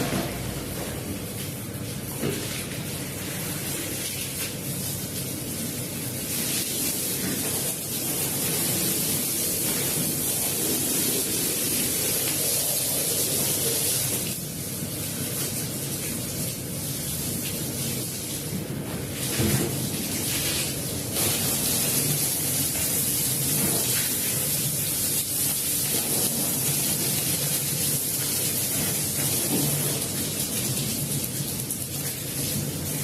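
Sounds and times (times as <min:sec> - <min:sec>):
water spraying onto rug: 0:00.0 - 0:33.0.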